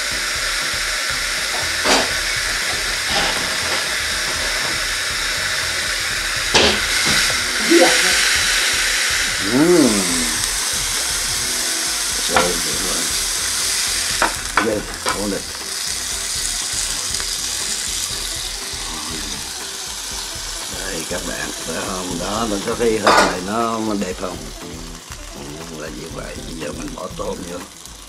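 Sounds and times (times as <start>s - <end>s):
steak sizzling on grill: 0.0s - 28.0s.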